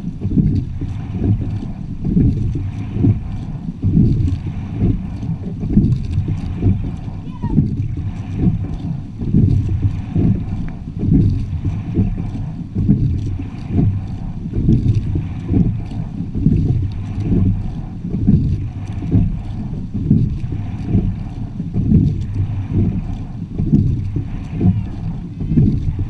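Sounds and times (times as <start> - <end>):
water rushing along boat hull: 0.0 - 26.0
wind rumbling on microphone: 0.0 - 26.0.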